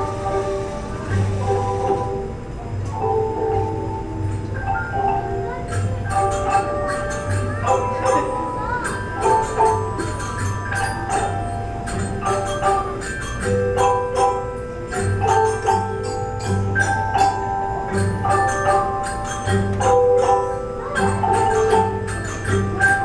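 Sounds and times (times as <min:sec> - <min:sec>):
xylophones and glockenspiels playing: 0:00.0 - 0:02.3, 0:02.9 - 0:23.0.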